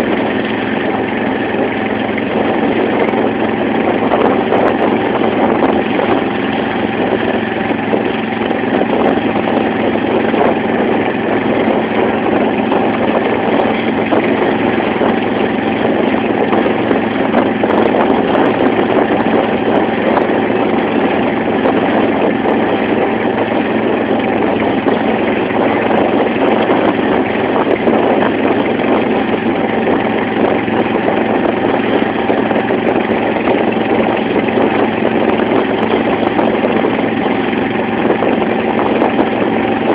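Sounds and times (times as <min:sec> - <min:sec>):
motorboat engine running: 0:00.0 - 0:39.9
water splashing along hull: 0:00.0 - 0:39.9.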